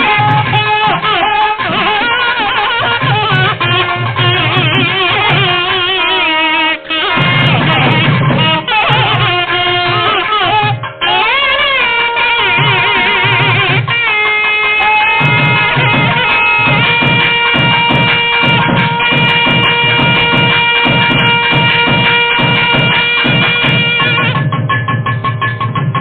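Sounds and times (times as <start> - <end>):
reed pipe melody: 0.0 - 24.6
drum strokes: 0.0 - 26.0.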